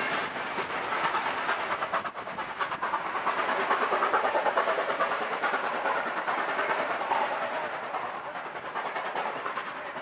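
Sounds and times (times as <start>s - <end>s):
train carriages rolling on rails: 0.0s - 10.0s.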